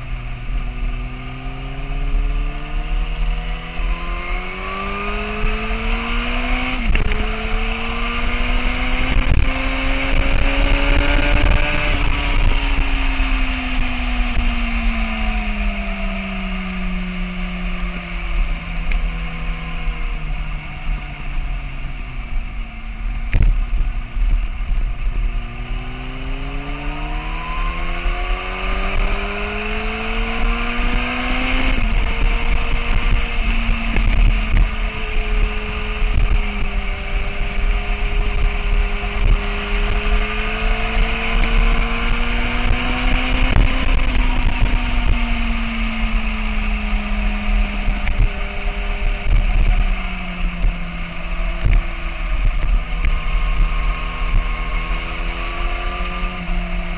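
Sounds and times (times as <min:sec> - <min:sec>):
motorcycle engine revving: 0:00.0 - 0:56.9
wind rumble on microphone: 0:00.0 - 0:56.9.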